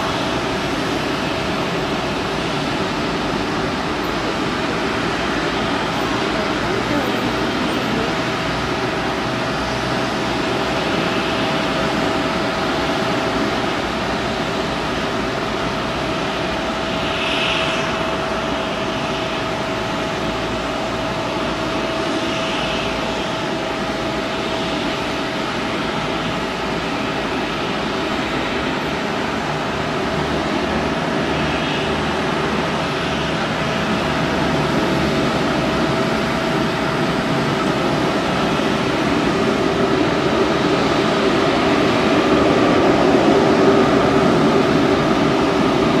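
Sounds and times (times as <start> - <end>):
airliner cabin engine rush: 0.0 - 46.0.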